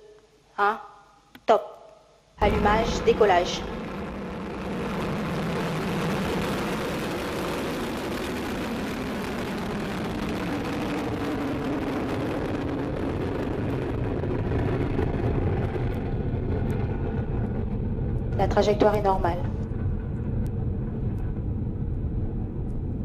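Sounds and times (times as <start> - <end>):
rocket exhaust roar: 2.4 - 23.0.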